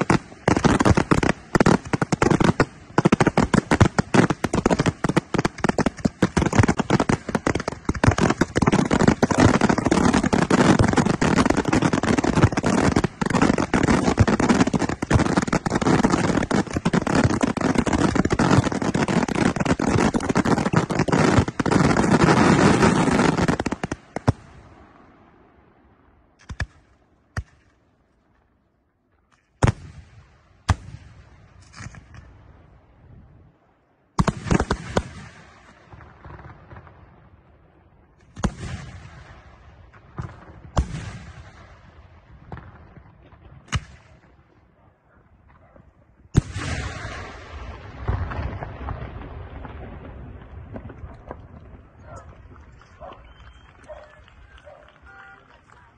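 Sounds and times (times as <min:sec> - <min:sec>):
fireworks bursts and crackle: 0:00.0 - 0:25.2, 0:29.3 - 0:32.8, 0:34.1 - 0:44.8, 0:45.4 - 0:55.9.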